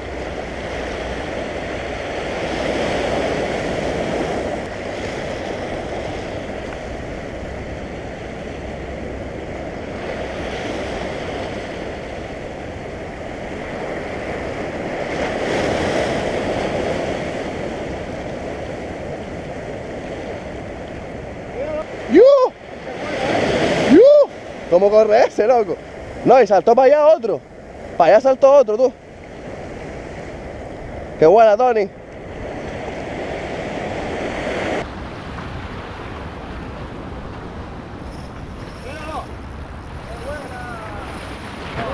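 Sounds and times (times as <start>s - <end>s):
wind rumbling on microphone: 0.0s - 24.9s, 27.4s - 41.9s
surf washing over rocks: 0.0s - 41.9s.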